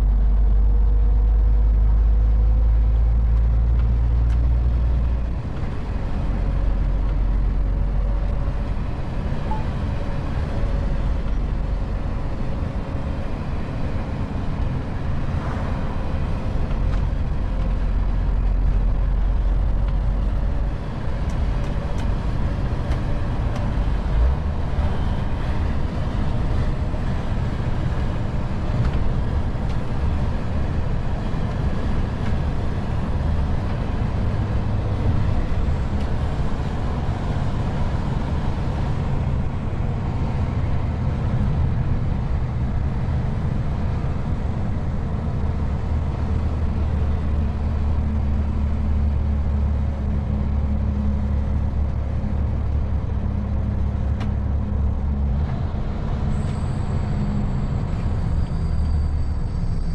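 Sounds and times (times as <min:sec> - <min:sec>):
diesel truck engine rumbling: 0:00.0 - 0:59.9
tyre and road noise: 0:00.0 - 0:59.9.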